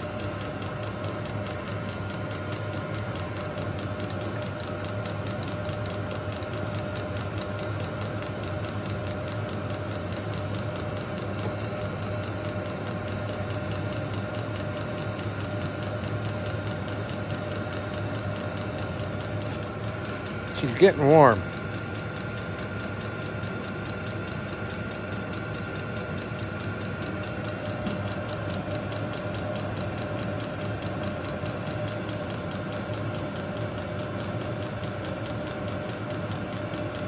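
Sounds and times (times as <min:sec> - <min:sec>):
blower fan hum: 0:00.0 - 0:37.0
fuel pump ticking: 0:00.0 - 0:37.0.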